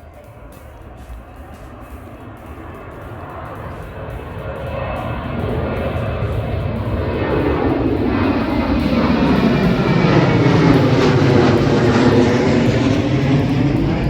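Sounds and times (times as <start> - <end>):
airliner engines roaring: 0.0 - 14.0.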